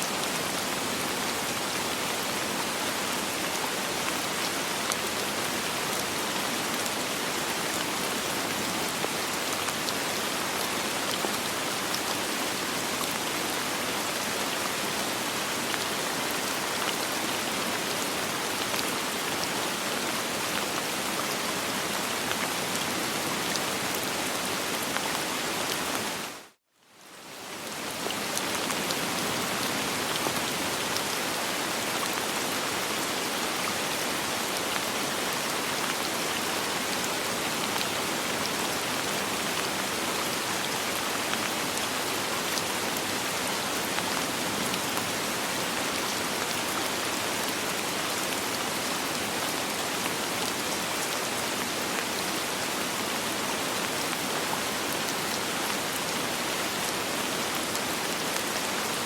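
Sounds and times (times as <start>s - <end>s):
soft rain: 0.0s - 59.0s.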